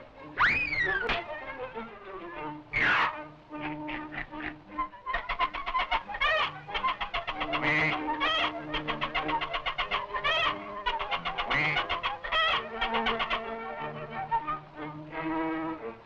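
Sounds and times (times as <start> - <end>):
geese and ducks squawking: 0.0 - 16.0
goose honking: 0.2 - 16.0.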